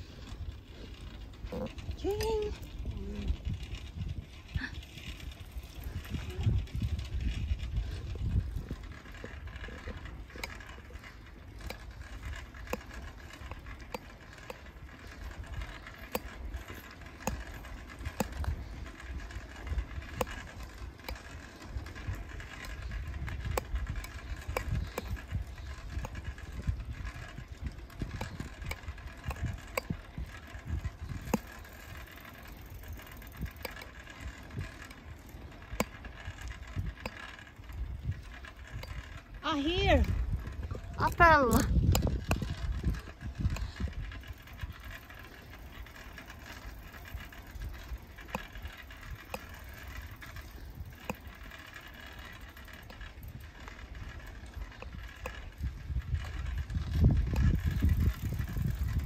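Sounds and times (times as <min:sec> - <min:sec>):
bicycle rumble on road: 0:00.0 - 0:59.0
bike clicks and rattles: 0:00.0 - 0:59.0.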